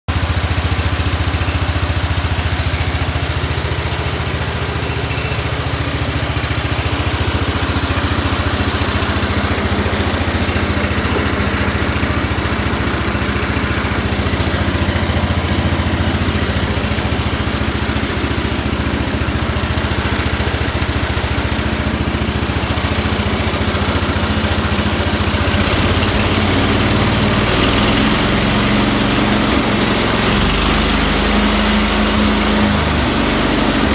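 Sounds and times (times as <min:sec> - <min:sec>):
garden tractor engine running: 0:00.1 - 0:33.9.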